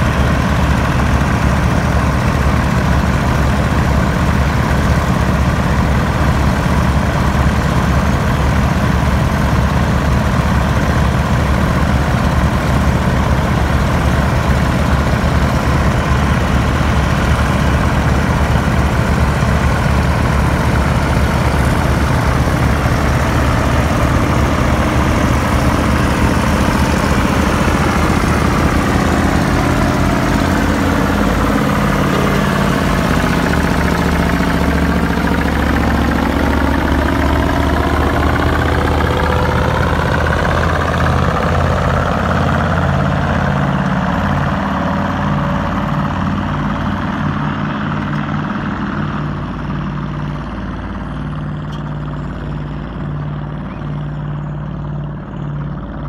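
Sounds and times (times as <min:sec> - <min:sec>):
truck diesel engines labouring: 0:00.0 - 0:56.0.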